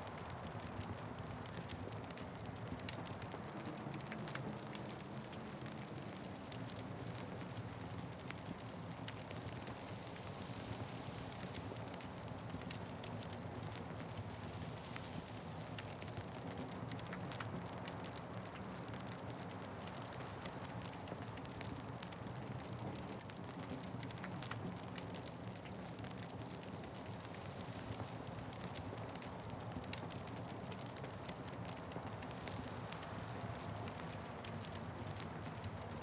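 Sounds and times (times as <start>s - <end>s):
wood fire crackling and popping: 0.1s - 36.0s.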